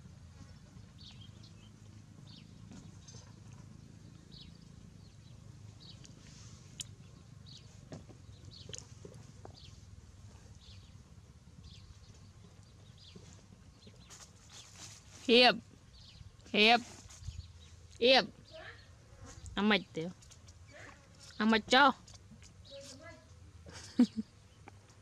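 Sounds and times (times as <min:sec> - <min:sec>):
faint bird chirping: 0:00.4 - 0:24.8.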